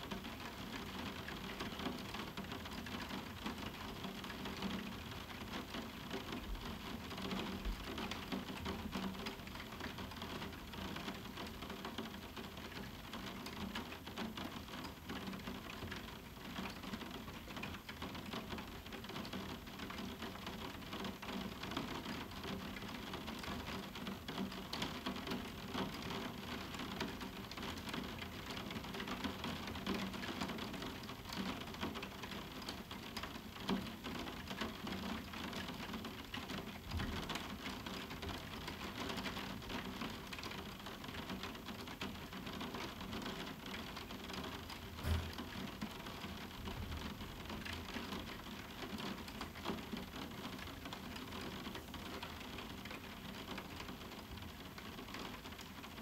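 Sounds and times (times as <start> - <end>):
rain pattering on window: 0.0 - 56.0.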